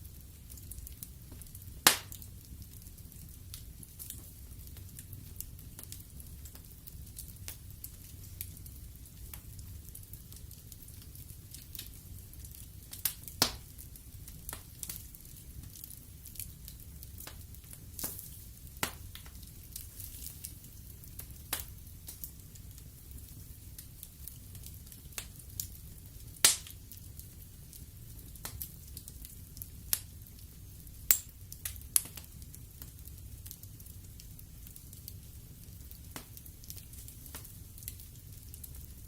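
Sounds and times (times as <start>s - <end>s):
burning logs crackling and popping: 0.0s - 39.0s
fire flames rumbling and hissing: 0.0s - 39.0s.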